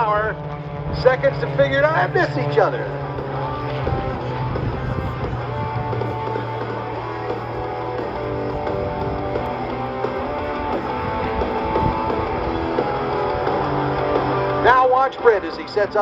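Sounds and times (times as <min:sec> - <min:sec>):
rock music with electric guitar: 0:00.0 - 0:16.0.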